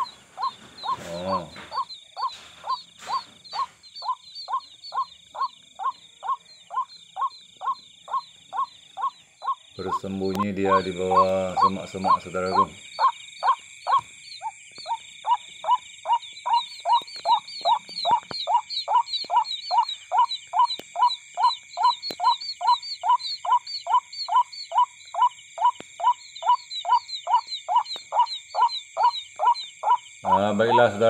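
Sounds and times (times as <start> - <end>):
high-pitched insect chorus: 0.0 - 31.0
repeated animal call: 0.0 - 31.0.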